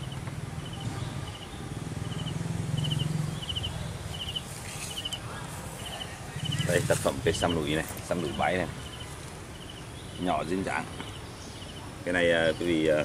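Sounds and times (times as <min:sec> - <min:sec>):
rhythmic pulsed chirping: 0:00.0 - 0:11.9.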